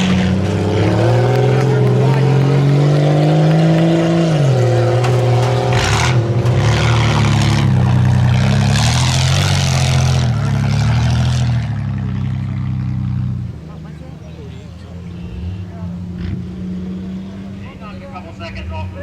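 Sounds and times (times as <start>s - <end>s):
race truck engine revving: 0.0s - 19.0s.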